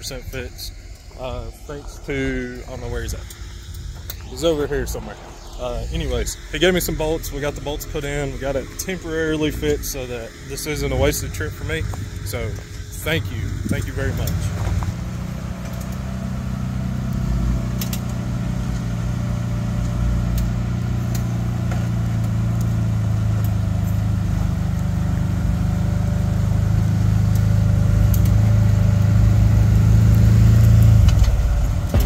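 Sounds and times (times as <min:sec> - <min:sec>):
engine running at low revs: 0:00.0 - 0:32.0.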